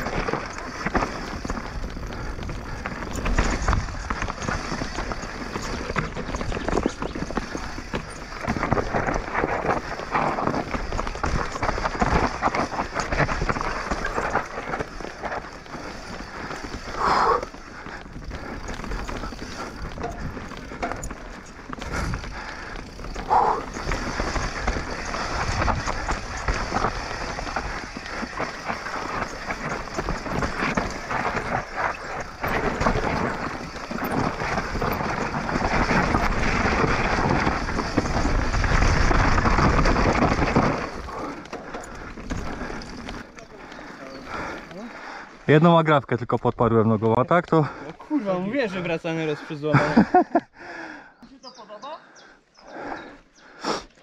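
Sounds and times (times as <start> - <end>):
bike tyres crunching on stones: 0.0 - 50.4
bike rattling: 0.0 - 51.0.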